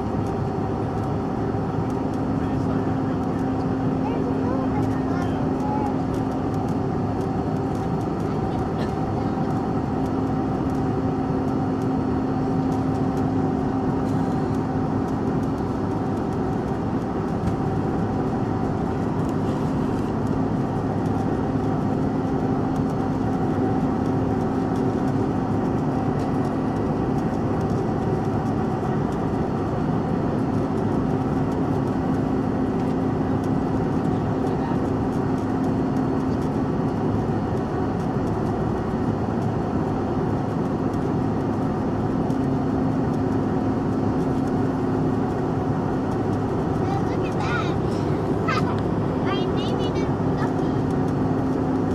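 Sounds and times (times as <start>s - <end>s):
jet engines in cabin: 0.0s - 51.9s
steady low hum: 0.0s - 51.9s.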